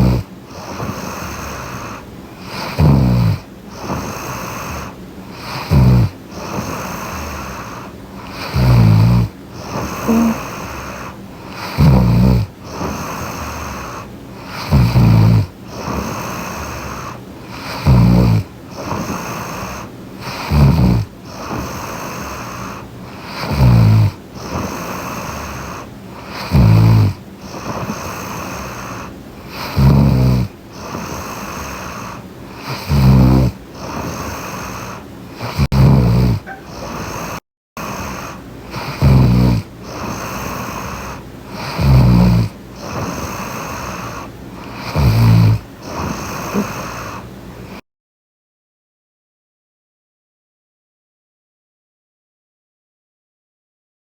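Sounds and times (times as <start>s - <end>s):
woman snoring: 0.0s - 47.8s.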